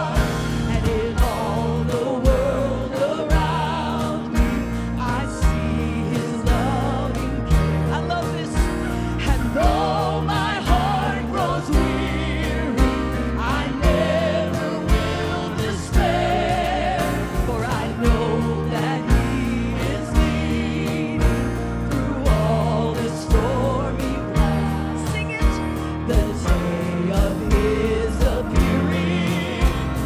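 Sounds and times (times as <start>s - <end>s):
band of piano guitar and bass: 0.0s - 30.0s
vocalists singing with vibrato: 0.0s - 30.0s.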